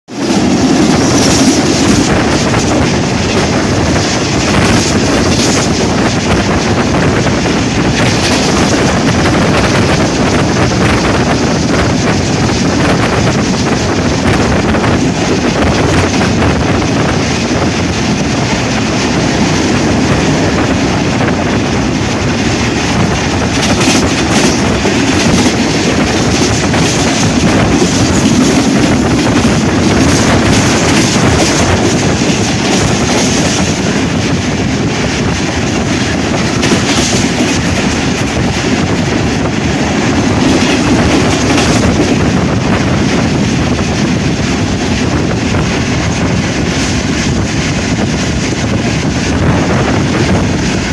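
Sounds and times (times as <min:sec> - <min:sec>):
clickety-clack over rail joints: 0:00.0 - 0:50.9
rush of wheels on rails: 0:00.0 - 0:50.9
wind buffeting microphone: 0:00.1 - 0:50.9.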